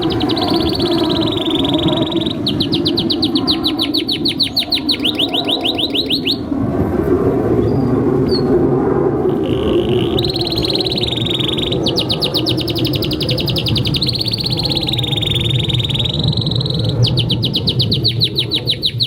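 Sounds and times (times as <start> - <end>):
canary singing: 0.0 - 6.5, 9.3 - 19.0.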